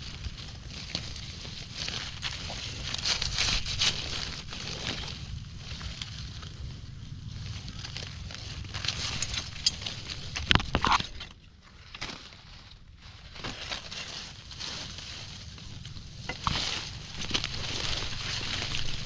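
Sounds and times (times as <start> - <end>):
dry leaves crackling and rustling: 0.0 - 19.0.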